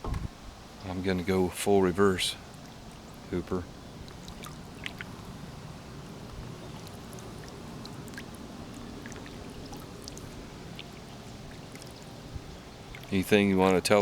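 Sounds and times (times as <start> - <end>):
water sloshing around boat: 0.0 - 14.0.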